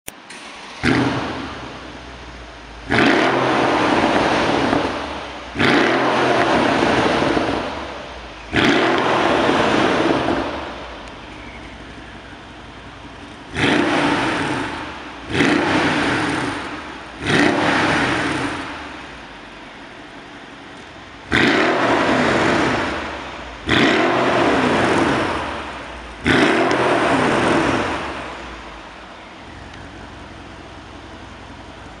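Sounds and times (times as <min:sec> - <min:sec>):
car engine revving: 0:00.3 - 0:32.0.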